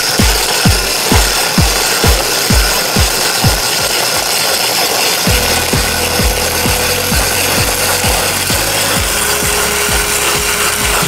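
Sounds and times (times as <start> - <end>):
background music with beat: 0.0 - 11.0
ice machine grinding ice: 0.0 - 11.0.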